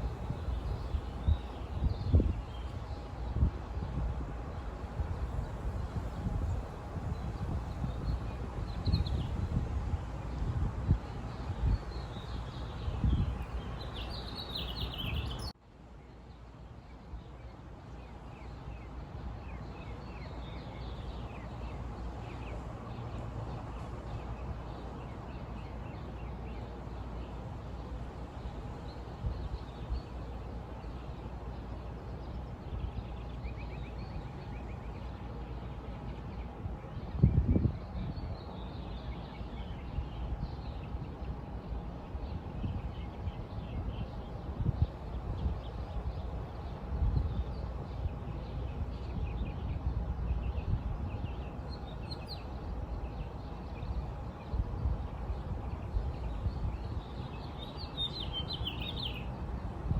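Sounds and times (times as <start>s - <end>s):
birds chirping faintly: 11.0s - 59.7s.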